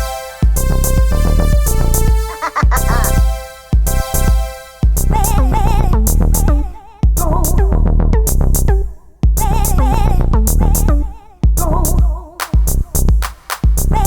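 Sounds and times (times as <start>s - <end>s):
drum machine beat: 0.0s - 14.0s
heavy bass: 0.0s - 14.0s.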